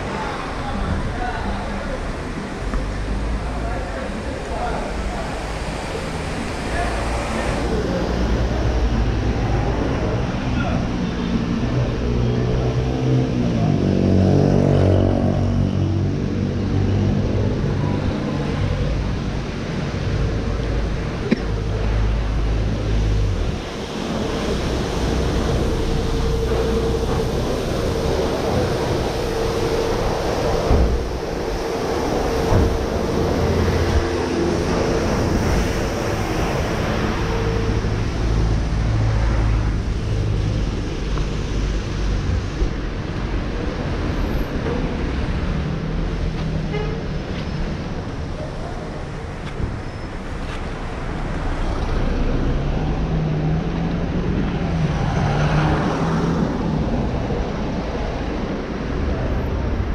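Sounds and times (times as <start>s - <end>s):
traffic noise: 0.0s - 59.9s.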